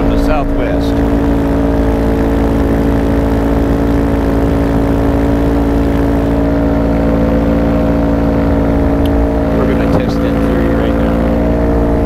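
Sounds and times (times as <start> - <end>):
paramotor engine and propeller drone: 0.0 - 12.0.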